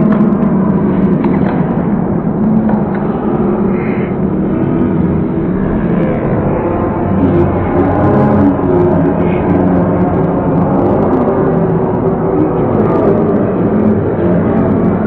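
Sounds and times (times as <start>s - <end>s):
crowd shouting and talking: 0.0s - 15.0s.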